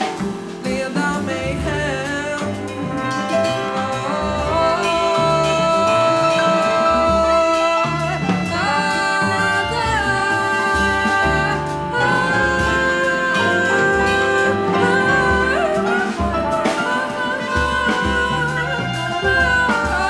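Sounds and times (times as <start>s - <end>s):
double bass: 0.0s - 20.0s
piano: 0.0s - 20.0s
woman singing: 0.0s - 20.0s
trumpet holding long notes: 2.6s - 20.0s.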